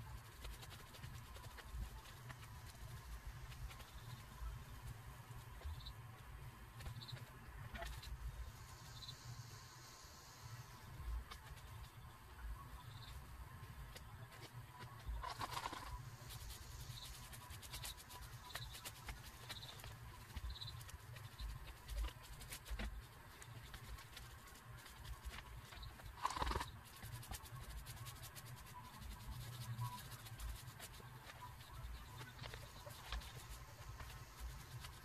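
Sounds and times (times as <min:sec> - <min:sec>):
paintbrush brushing and tapping: 0:00.0 - 0:09.0, 0:10.9 - 0:35.0
low steady hum: 0:00.0 - 0:35.0.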